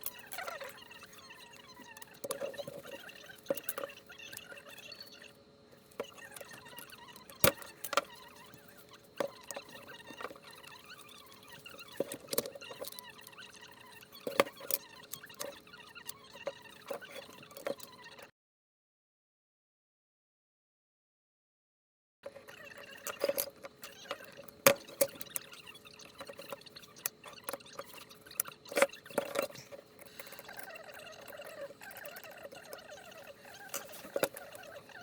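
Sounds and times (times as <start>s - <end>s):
faint squeaky chirps: 0.0s - 18.3s, 22.2s - 35.0s.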